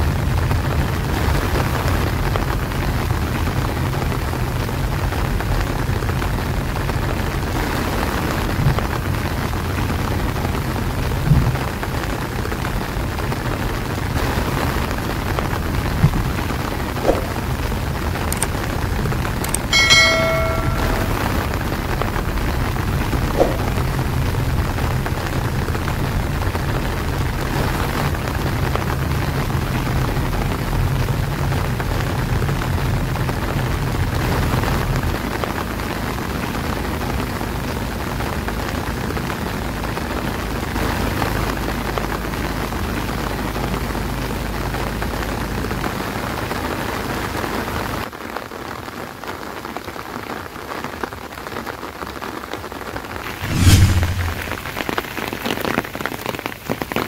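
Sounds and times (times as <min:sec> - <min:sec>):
heavy rain on car roof: 0:00.0 - 0:17.0, 0:24.1 - 0:53.2, 0:55.8 - 0:57.0
engine and road rumble: 0:00.0 - 0:19.7, 0:21.6 - 0:48.0
outdoor rain: 0:00.0 - 0:53.4, 0:54.5 - 0:57.0.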